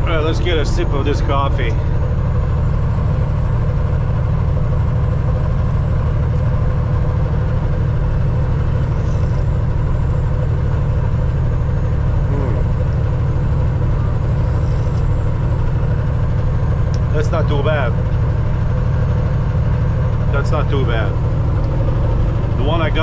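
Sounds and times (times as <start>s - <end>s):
truck diesel engine idling: 0.0s - 23.0s.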